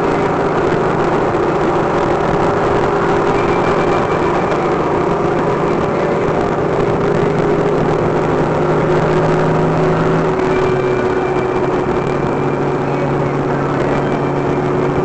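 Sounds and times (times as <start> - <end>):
car engine drone: 0.0 - 15.0
wind and road noise: 0.0 - 15.0.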